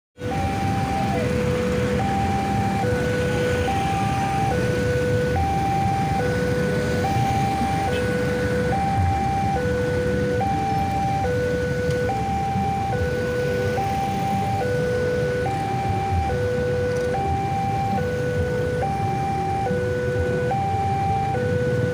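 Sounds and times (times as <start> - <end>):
motorcycle engines: 0.2 - 21.9
traffic rumble: 0.2 - 21.9
two-tone crossing alarm: 0.2 - 21.9.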